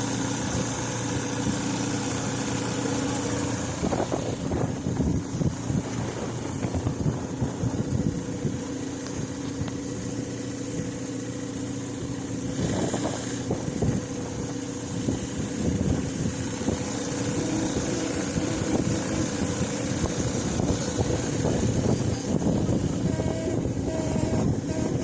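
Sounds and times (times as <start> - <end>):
boat motor running: 0.0 - 25.0
wind buffeting microphone: 3.2 - 25.0.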